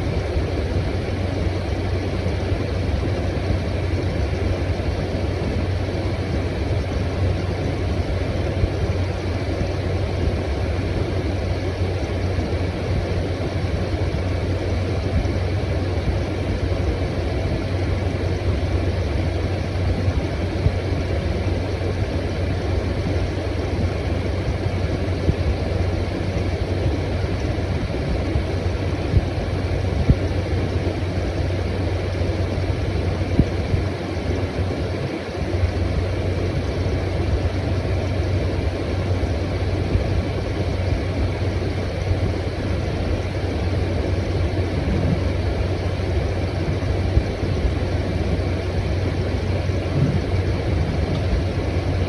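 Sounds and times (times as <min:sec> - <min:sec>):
compressor hum: 0:00.0 - 0:52.0
fan rushing: 0:00.0 - 0:52.0.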